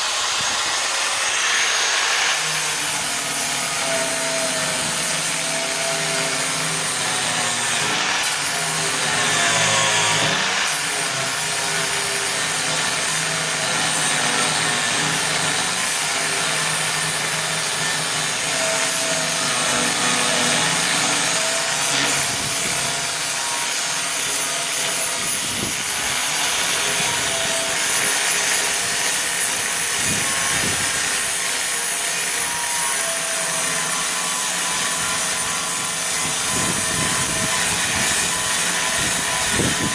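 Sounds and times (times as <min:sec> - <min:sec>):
grinder grinding metal: 0:00.0 - 0:39.9.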